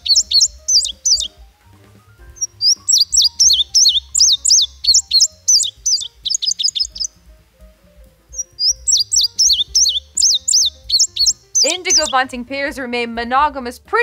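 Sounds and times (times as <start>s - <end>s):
bird singing: 0.0s - 7.3s, 8.3s - 12.4s.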